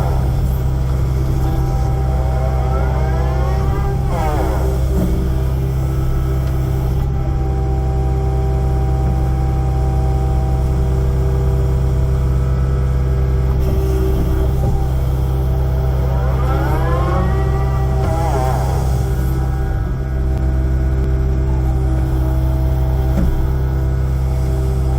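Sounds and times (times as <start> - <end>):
excavator diesel engine running: 0.0 - 24.9
hydraulic whine: 0.0 - 24.9.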